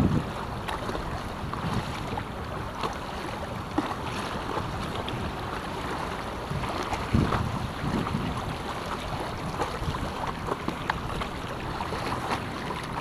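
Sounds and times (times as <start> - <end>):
choppy water lapping a paddleboard: 0.0 - 13.0
paddle splashes: 0.0 - 13.0
wind on microphone: 0.0 - 13.0.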